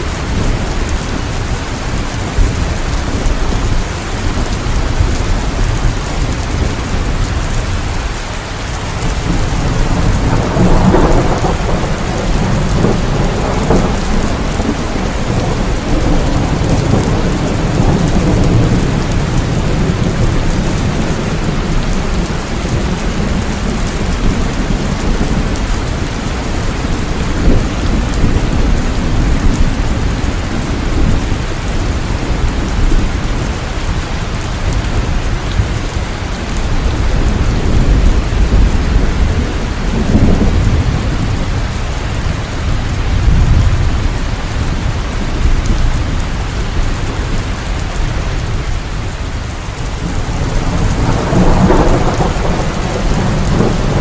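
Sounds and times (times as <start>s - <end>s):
low thunder rumble: 0.0s - 54.0s
steady rain: 0.0s - 54.0s.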